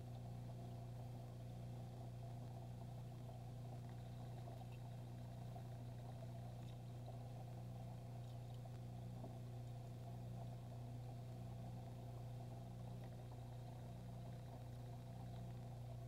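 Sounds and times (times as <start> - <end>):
aquarium pump hum: 0.0 - 16.0.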